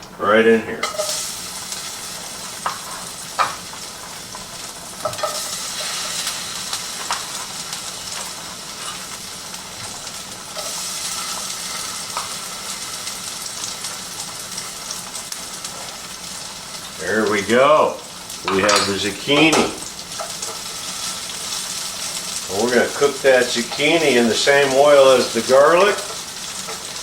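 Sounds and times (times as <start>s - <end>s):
vegetables sizzling in a frying pan: 0.8s - 27.0s.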